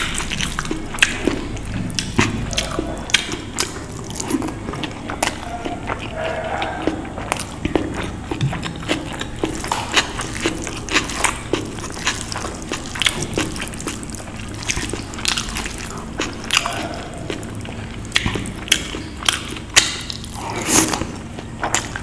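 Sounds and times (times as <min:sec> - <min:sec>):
chewing and lip smacking: 0:00.0 - 0:22.0.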